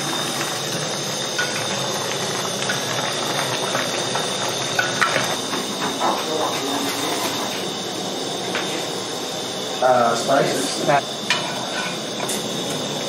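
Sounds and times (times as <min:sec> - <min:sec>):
meat hissing in pot: 0:00.0 - 0:13.0.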